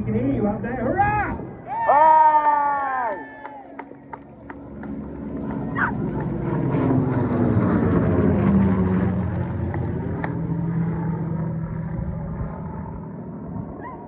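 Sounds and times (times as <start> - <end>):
propeller plane engine fly-past: 0.0 - 14.0.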